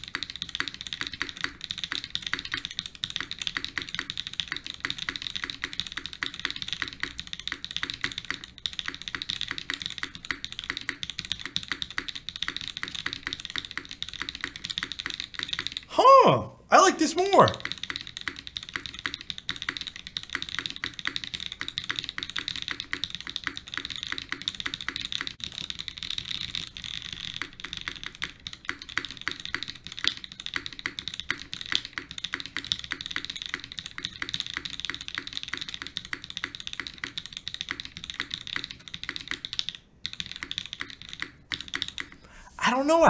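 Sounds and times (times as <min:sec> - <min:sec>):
mechanical keyboard typing: 0:00.0 - 0:15.9, 0:17.6 - 0:42.2.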